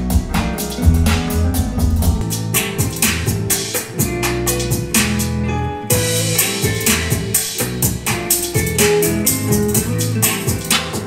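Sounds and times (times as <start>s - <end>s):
music with drums from speaker: 0.0s - 11.0s.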